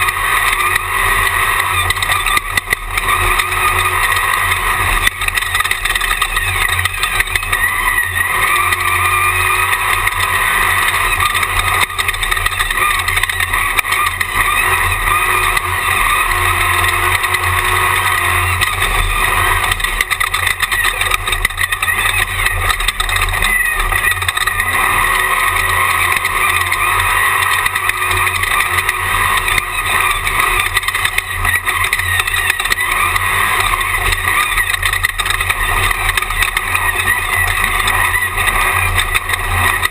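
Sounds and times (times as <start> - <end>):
chassis rattle: 0.0 - 39.9
race car engine under load: 0.0 - 39.9.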